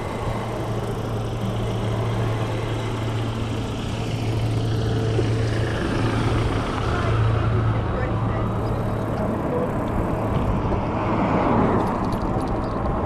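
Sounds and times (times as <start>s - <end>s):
electric bike drone: 0.0s - 13.0s.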